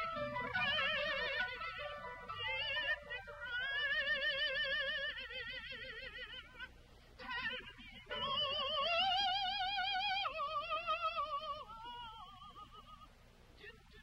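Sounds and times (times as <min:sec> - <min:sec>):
woman singing with vibrato: 0:00.4 - 0:13.9.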